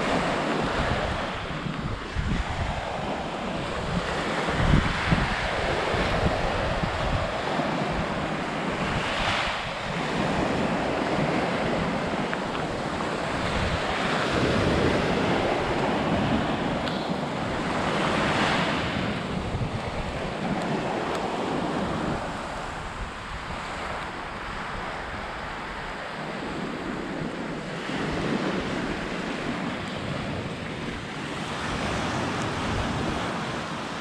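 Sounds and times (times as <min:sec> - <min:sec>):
small waves breaking on shore: 0:00.0 - 0:34.0
wind rumbling on microphone: 0:00.0 - 0:34.0.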